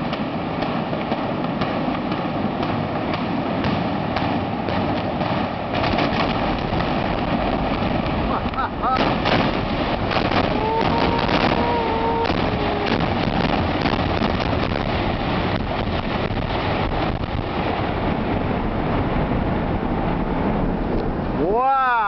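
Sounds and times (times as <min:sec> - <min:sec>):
explosive charges cracking: 0:00.0 - 0:21.4
collapsing structure rumble: 0:00.0 - 0:21.6.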